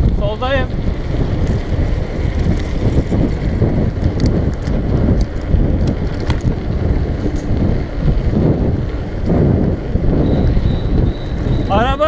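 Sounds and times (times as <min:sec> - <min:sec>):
bike clicks and rattles: 0:00.0 - 0:12.0
wind buffeting microphone: 0:00.0 - 0:12.0.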